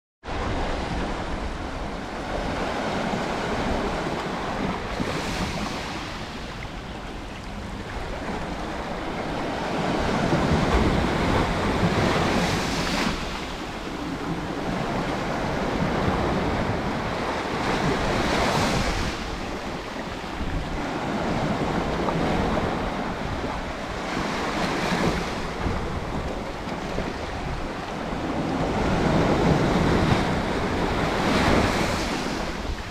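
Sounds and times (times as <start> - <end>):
sea waves breaking on shore: 0.3 - 32.9.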